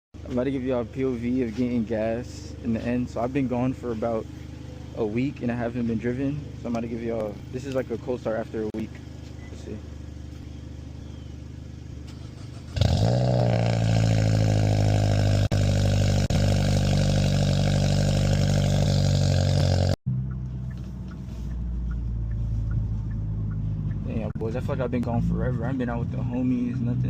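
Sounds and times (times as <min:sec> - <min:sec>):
car engine idling: 0:00.2 - 0:27.0
car engine starting: 0:00.2 - 0:27.0.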